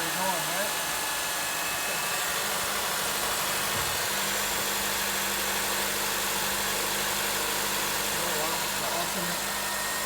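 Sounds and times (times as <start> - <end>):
van engine idling: 1.8 - 10.0.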